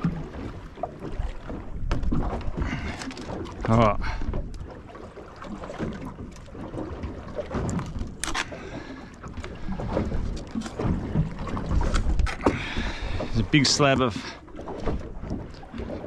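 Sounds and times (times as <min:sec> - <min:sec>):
water slapping boat hull: 0:00.0 - 0:16.0
wind: 0:00.0 - 0:16.0.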